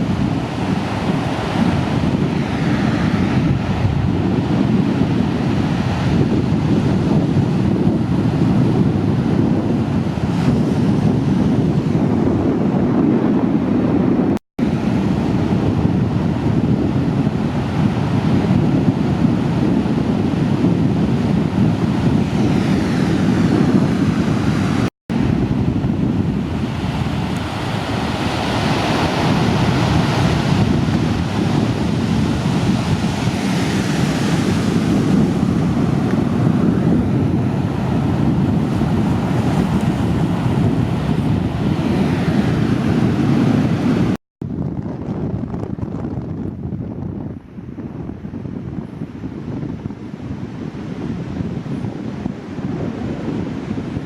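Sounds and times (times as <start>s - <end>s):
ocean surf breaking: 0.0s - 44.2s, 49.1s - 54.0s
wind rumbling on microphone: 0.0s - 54.0s.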